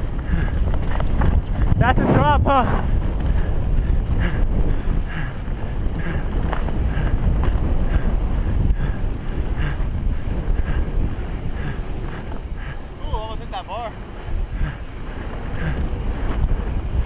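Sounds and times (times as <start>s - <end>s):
bike trail noise: 0.0s - 17.0s
wind rumble on microphone: 0.0s - 17.0s.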